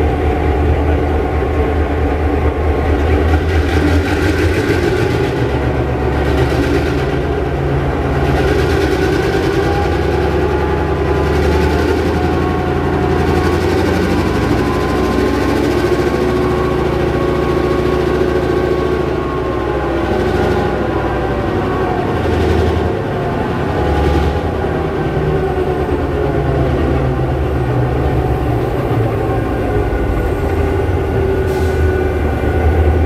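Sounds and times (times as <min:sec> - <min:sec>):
diesel locomotive engine running: 0:00.0 - 0:33.0.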